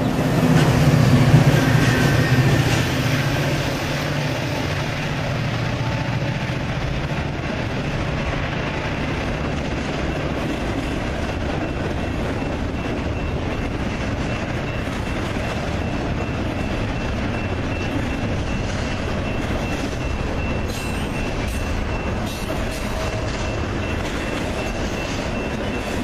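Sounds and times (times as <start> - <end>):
freight train wheels rumbling on rails: 0.0 - 26.0.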